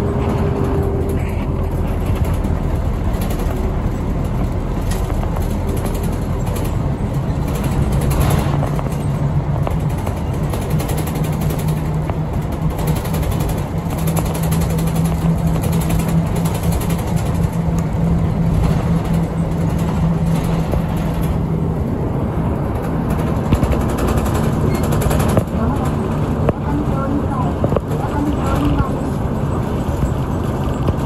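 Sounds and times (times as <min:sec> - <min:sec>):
bus engine hum: 0:00.0 - 0:31.0
road and tyre noise: 0:00.0 - 0:31.0.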